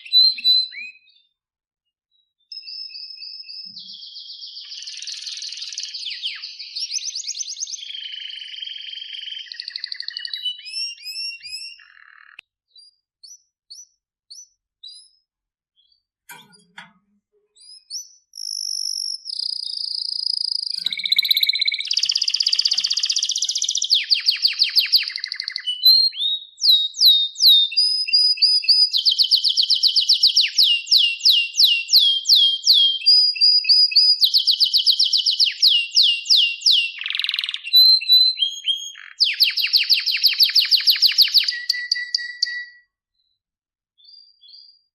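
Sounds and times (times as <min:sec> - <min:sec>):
canary singing with trills: 0:00.0 - 0:01.3, 0:02.5 - 0:16.8, 0:17.6 - 0:42.9.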